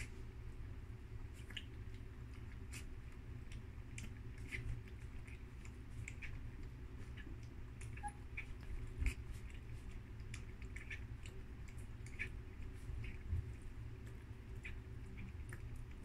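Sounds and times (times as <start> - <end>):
puppies lapping milk: 0.0 - 16.0.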